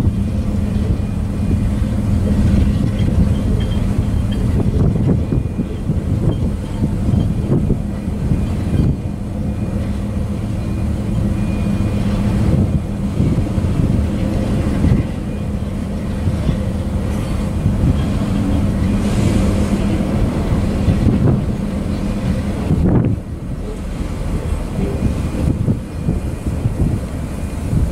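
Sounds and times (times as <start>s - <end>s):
steel wheels rumbling on rails: 0.0s - 27.9s.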